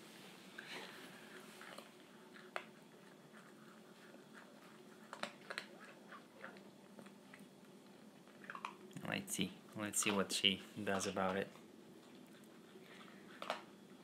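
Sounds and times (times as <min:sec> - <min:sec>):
dog crunching kibble: 0:01.3 - 0:09.2, 0:09.9 - 0:14.0.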